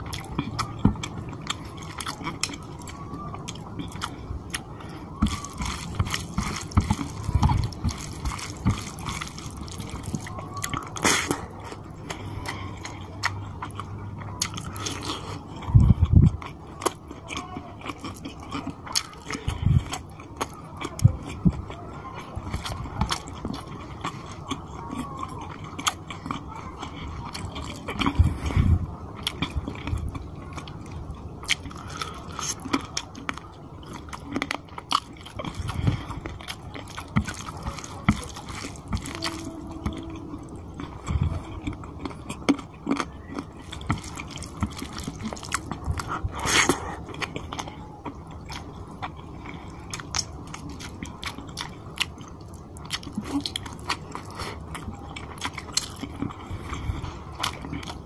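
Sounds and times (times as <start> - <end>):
wet chewing with small clicks: 0.0 - 58.0.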